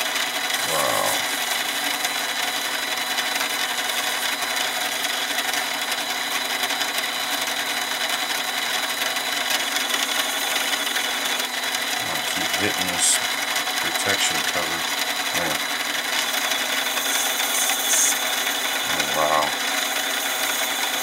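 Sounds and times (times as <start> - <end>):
lathe motor and gear whine: 0.0 - 21.0.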